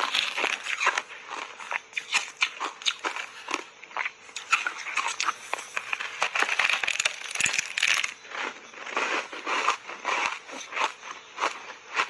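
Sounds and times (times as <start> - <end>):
ice being bitten and chewed: 0.0 - 12.0.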